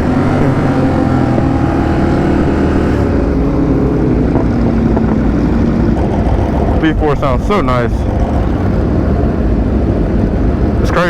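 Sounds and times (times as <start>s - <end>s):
motorcycle engines cruising: 0.0s - 11.0s
wind rush: 0.0s - 11.0s.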